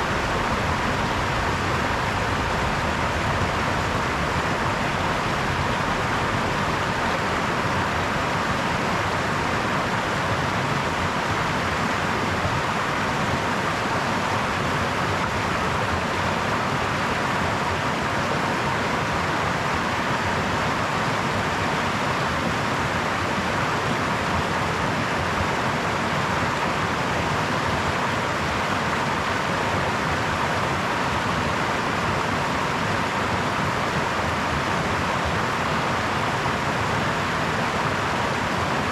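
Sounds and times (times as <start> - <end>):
brook water babbling: 0.0 - 38.9.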